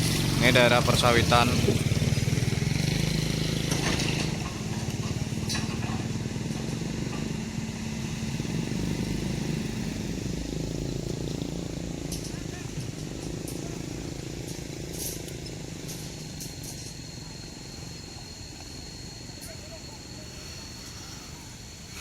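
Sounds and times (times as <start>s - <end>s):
vehicle engine on rough road: 0.0s - 22.0s.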